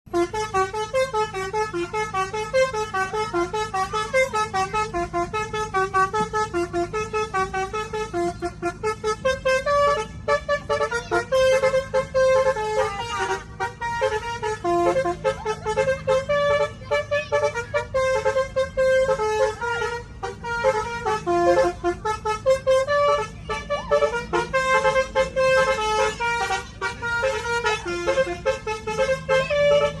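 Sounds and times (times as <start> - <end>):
bus multi-tone horn melody: 0.1 - 30.0.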